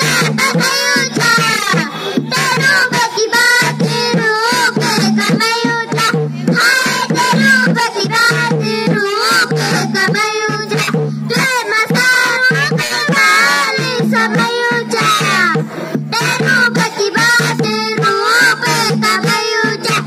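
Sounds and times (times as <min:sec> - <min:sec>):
high singing voice: 0:00.0 - 0:20.0
regular drum beat: 0:00.0 - 0:20.0.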